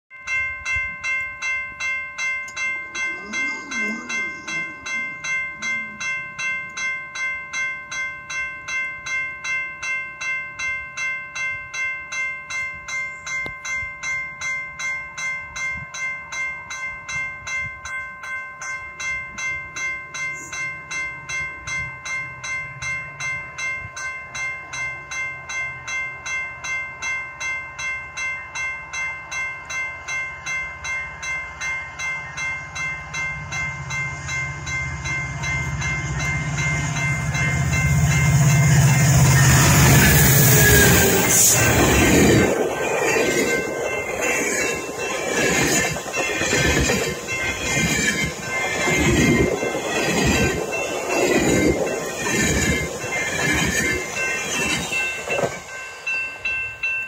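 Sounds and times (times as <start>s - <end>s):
level-crossing warning bell ringing: 0.1s - 57.0s.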